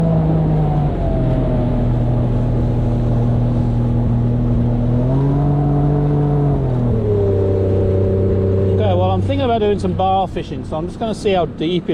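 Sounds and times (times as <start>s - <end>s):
boat motor running: 0.0s - 11.9s.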